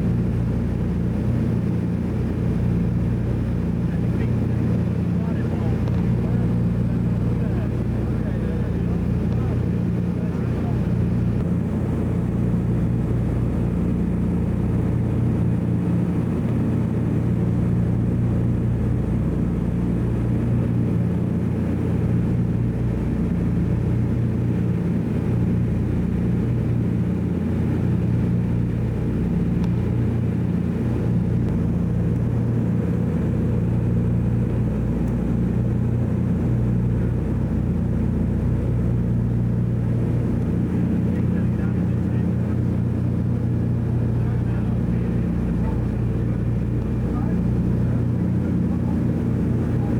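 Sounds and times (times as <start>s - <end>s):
propeller plane engines droning: 0.0s - 49.9s.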